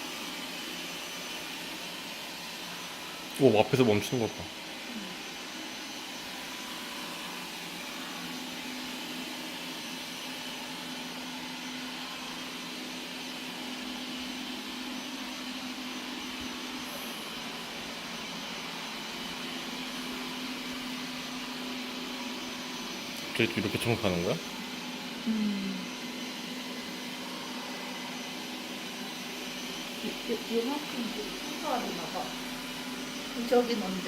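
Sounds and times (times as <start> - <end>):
robot vacuum running: 0.0 - 34.0.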